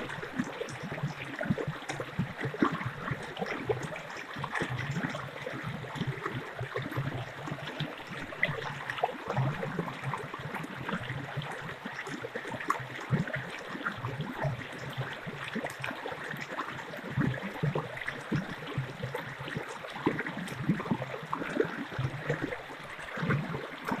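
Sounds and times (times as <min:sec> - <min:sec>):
stream running over stones: 0:00.0 - 0:24.0.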